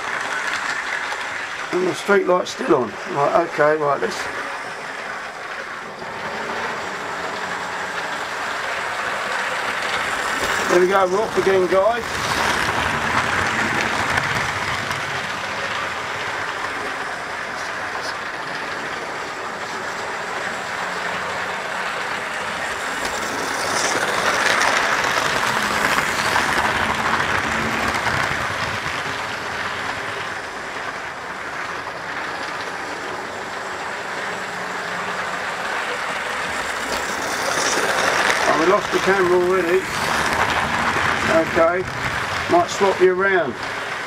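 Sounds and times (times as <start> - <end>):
model train motor hum: 0.0 - 44.0
model train wheels rattling on rail: 0.0 - 44.0.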